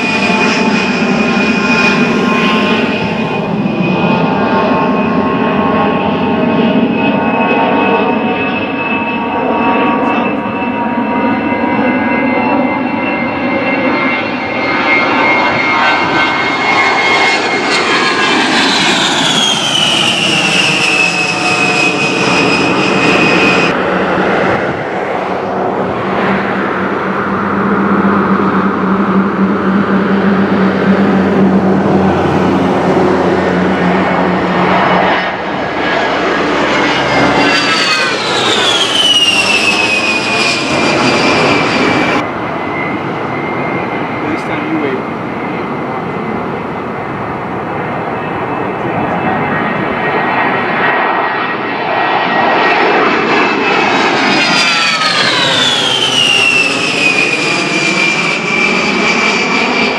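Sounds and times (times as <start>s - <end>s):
jet engines whining on flyby: 0.0s - 59.9s.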